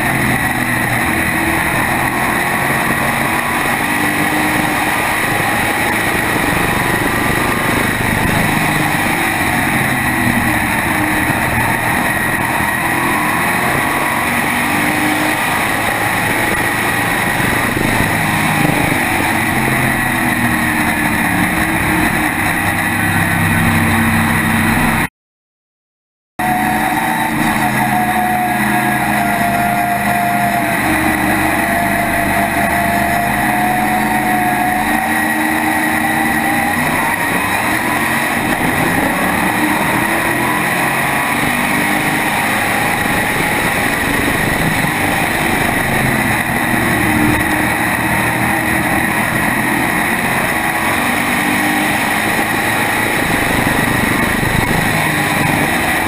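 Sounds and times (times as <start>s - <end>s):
race car engine running hard: 0.0s - 25.1s, 26.4s - 56.0s.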